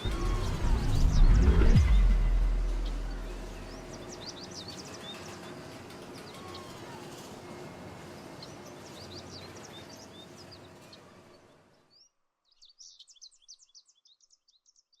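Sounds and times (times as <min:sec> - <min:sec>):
birds chirping: 0:00.0 - 0:14.6
outdoor background noise: 0:00.0 - 0:15.0.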